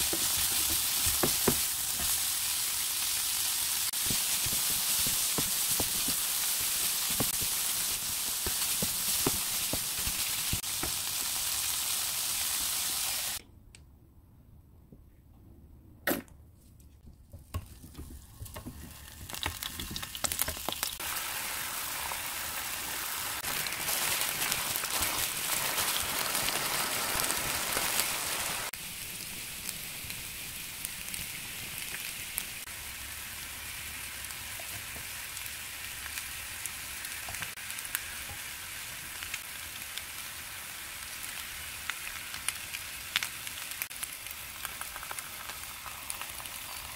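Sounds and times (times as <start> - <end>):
food sizzling in a frying pan: 0.0 - 13.4, 17.9 - 46.9.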